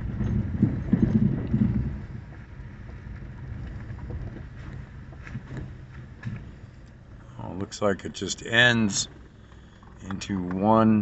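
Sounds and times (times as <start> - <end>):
car rolling over gravel: 0.0 - 11.0.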